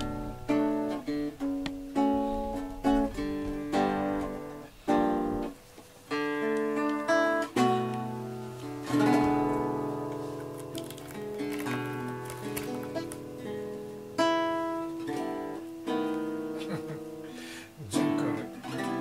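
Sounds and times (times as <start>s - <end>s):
acoustic guitar picking: 0.0s - 19.0s.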